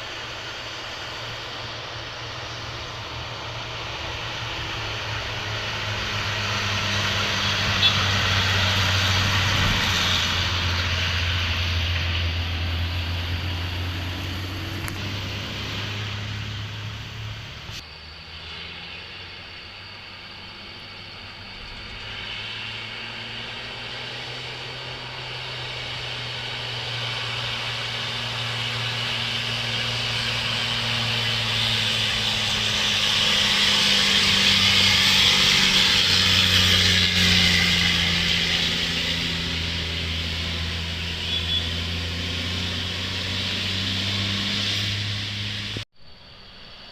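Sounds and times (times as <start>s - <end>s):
diesel engine running low: 0.0s - 46.9s
loud rushing brake noise: 2.9s - 19.6s, 21.1s - 45.8s.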